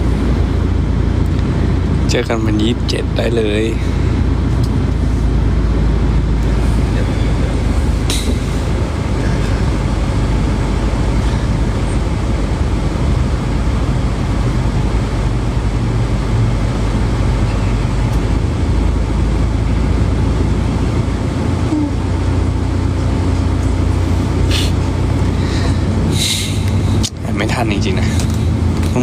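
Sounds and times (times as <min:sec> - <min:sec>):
vehicle rumble from inside: 0:00.0 - 0:29.0.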